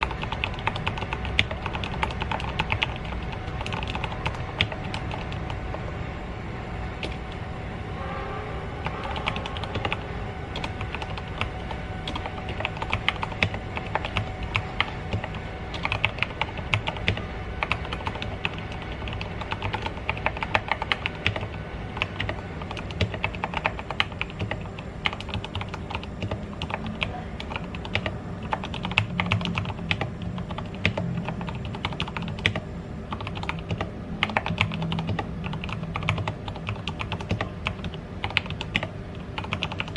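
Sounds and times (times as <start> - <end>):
mechanical keyboard typing: 0.0 - 5.8, 7.0 - 7.4, 9.1 - 10.0, 10.6 - 39.9.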